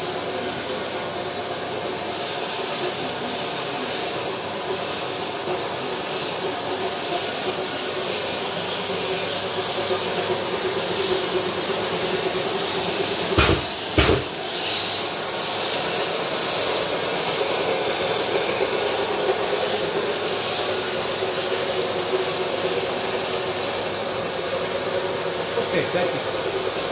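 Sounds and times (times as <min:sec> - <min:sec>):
sanding pad with vacuum whirring: 0:00.0 - 0:26.9.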